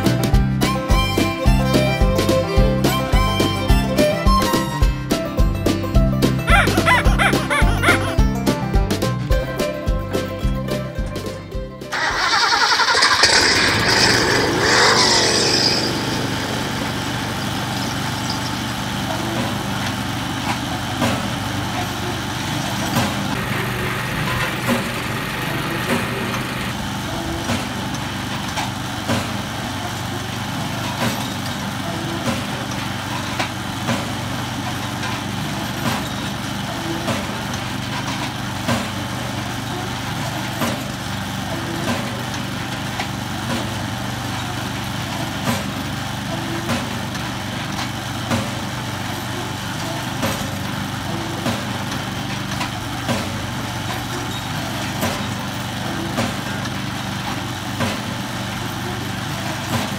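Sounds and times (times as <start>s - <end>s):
small petrol engine idling: 0.0s - 59.9s.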